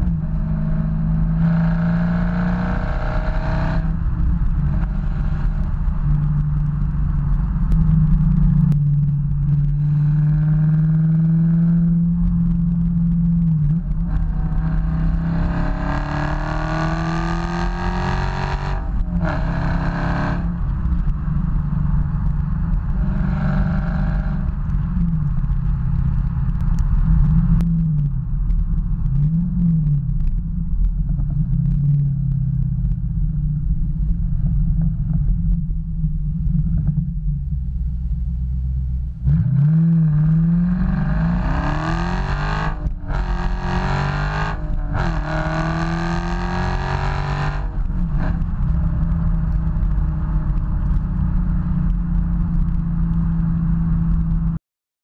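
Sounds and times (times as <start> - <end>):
car engine revving: 0.0 - 28.4, 36.3 - 54.5.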